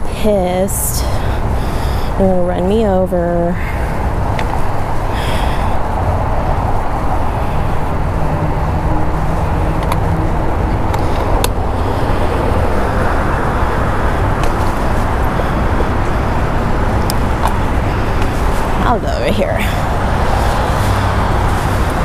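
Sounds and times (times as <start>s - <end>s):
car traffic passing: 0.0s - 22.0s
wind on microphone: 0.0s - 22.0s.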